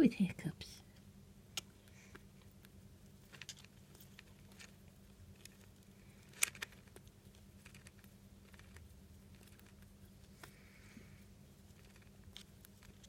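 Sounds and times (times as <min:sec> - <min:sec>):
rat making small clicks and rustles: 0:00.9 - 0:13.0.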